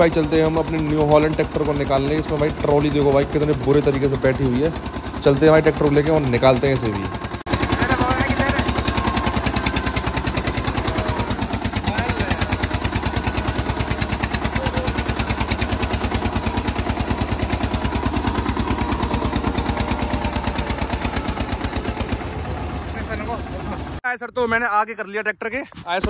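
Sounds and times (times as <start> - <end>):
tractor diesel engine running: 0.0 - 24.1.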